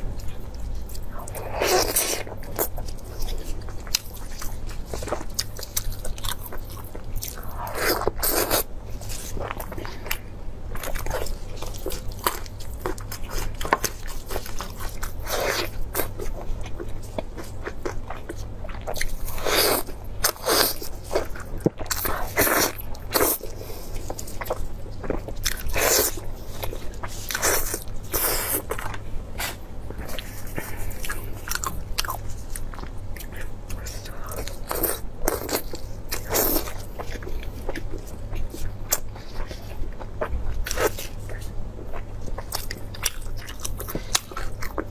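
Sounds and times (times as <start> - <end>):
steady low hum: 0.0 - 44.9
person chewing and biting: 0.1 - 44.9.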